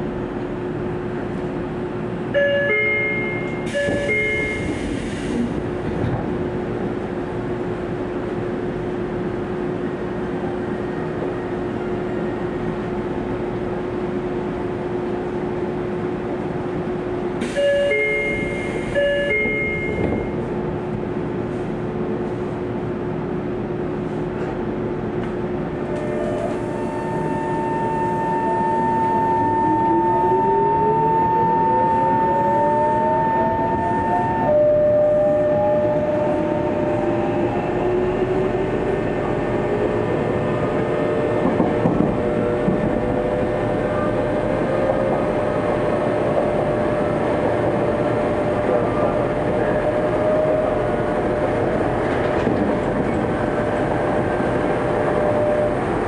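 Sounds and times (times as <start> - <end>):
electric train humming: 0.0 - 56.0.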